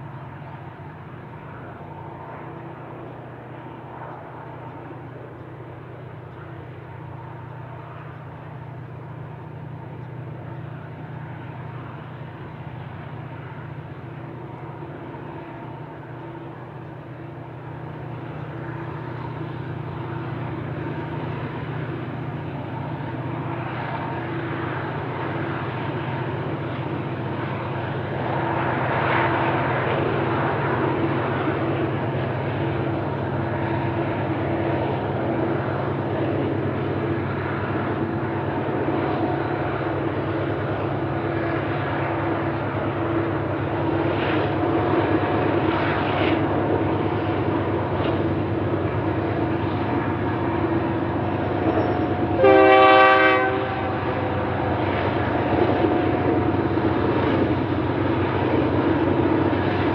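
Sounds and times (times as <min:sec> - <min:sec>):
locomotive engine drone: 0:00.0 - 0:59.9.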